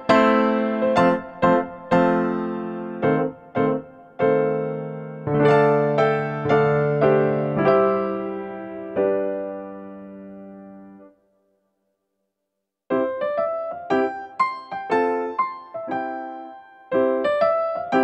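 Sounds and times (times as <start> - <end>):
piano music: 0.0 - 11.2, 12.9 - 18.0.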